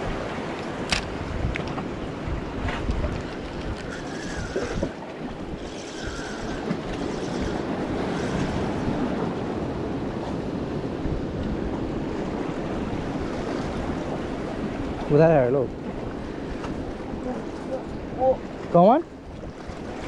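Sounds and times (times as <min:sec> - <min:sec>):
surf washing against rocks: 0:00.0 - 0:20.0
wind buffeting microphone: 0:00.0 - 0:20.0.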